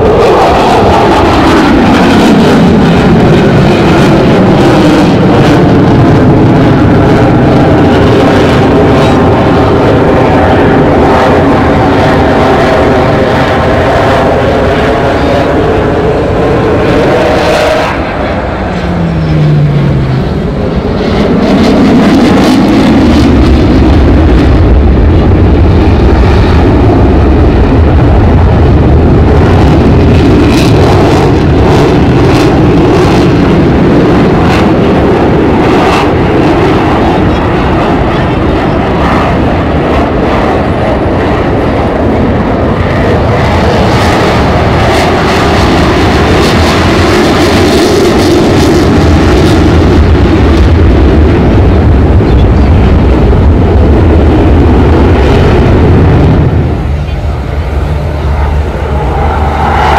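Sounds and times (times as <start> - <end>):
falling jet tone: 0.0 - 59.9
jet engine roar: 0.0 - 59.9.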